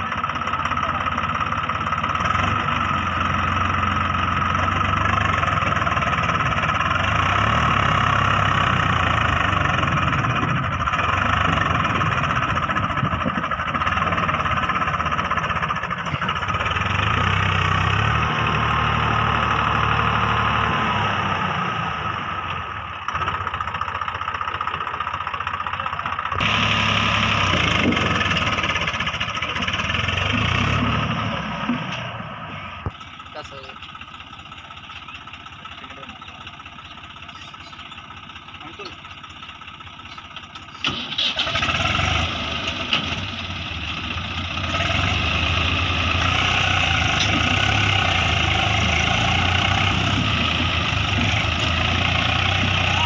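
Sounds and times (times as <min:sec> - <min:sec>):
tractor diesel engines under load: 0:00.0 - 0:53.0.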